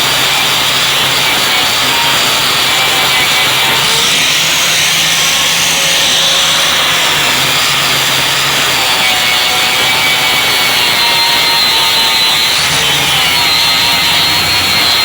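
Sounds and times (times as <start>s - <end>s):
angle grinder grinding: 0.0s - 15.0s.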